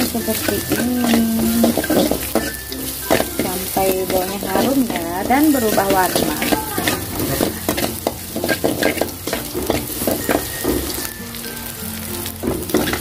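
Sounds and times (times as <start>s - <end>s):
metal spoon scraping a wok: 0.0s - 11.1s, 12.5s - 13.0s
garlic sizzling in oil: 0.0s - 13.0s.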